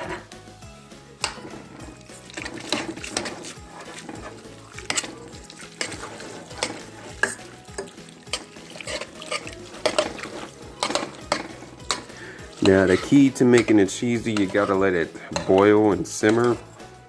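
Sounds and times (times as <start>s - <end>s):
spoon clinking against pot: 1.2s - 16.8s
spoon stirring macaroni in a pot: 1.2s - 17.0s.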